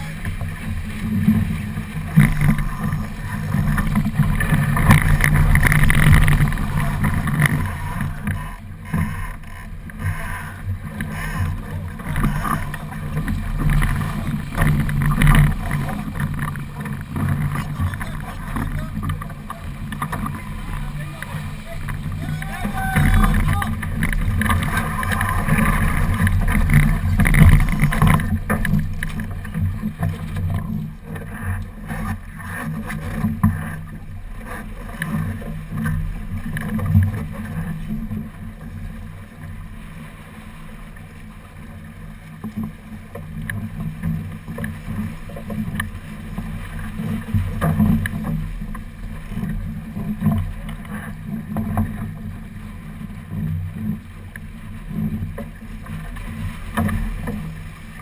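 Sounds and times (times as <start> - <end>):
water rushing along a hull: 0.0 - 58.0.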